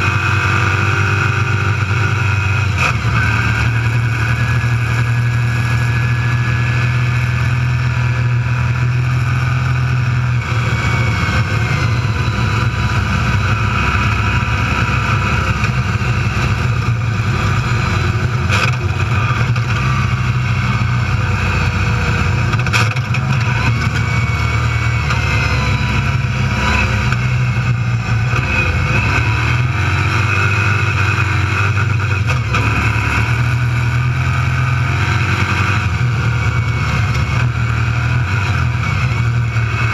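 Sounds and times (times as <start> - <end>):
race car engine running: 0.0 - 39.9
road and chassis noise: 0.0 - 39.9.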